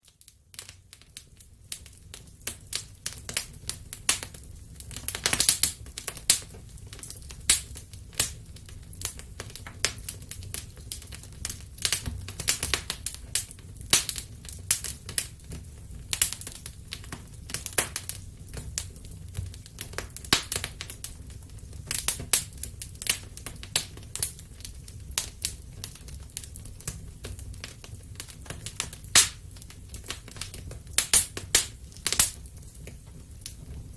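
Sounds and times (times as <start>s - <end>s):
wood fire pops and snaps: 0.0s - 33.9s
low rumble of flames: 0.1s - 33.9s.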